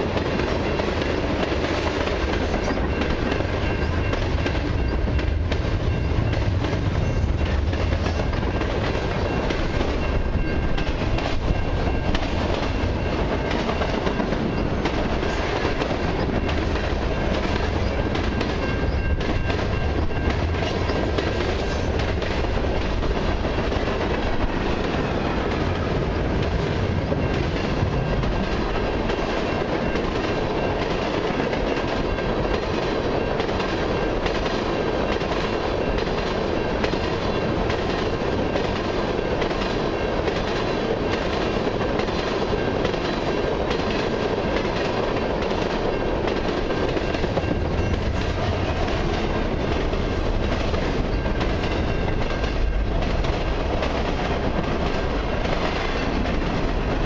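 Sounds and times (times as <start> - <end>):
freight train cars rolling past: 0.0 - 57.0
train wheels clacking over rails: 0.0 - 57.0.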